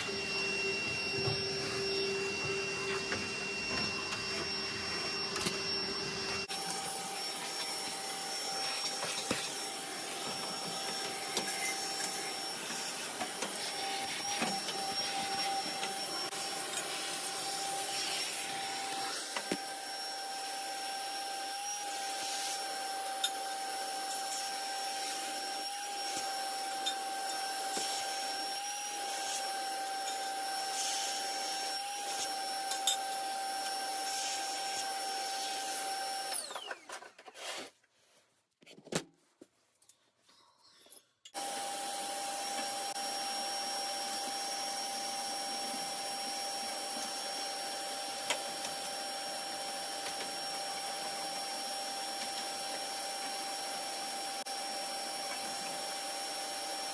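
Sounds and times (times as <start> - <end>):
vacuum running with high whine: 0.0 - 36.7, 41.4 - 56.9.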